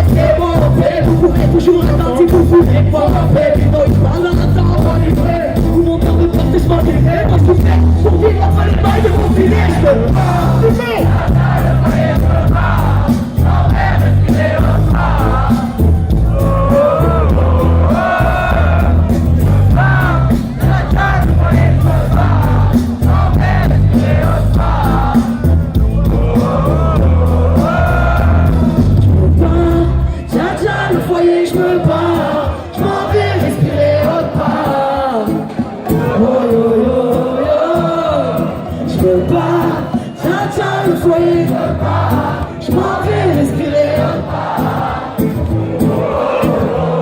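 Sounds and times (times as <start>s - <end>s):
bass-heavy rap beat: 0.0s - 47.0s
crowd noise: 0.0s - 47.0s
voices singing: 0.0s - 47.0s.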